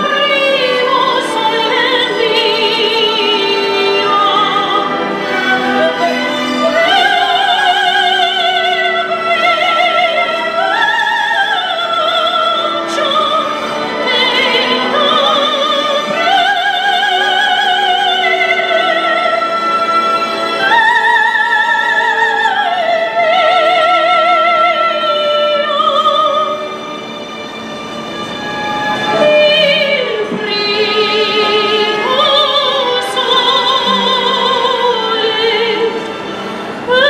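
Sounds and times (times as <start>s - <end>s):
woman singing with vibrato: 0.0s - 26.8s, 28.7s - 36.1s.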